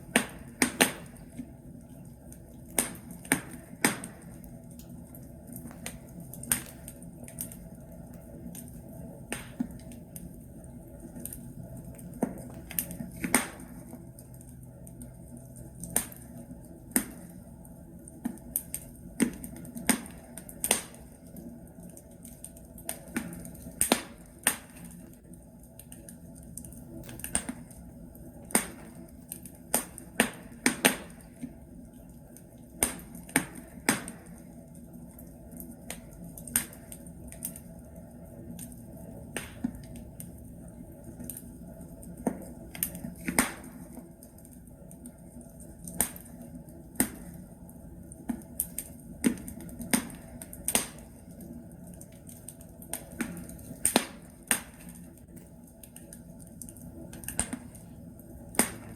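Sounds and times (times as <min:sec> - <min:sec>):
logs crackling in fireplace: 0:00.0 - 0:58.9
low hiss of fire: 0:00.0 - 0:58.9.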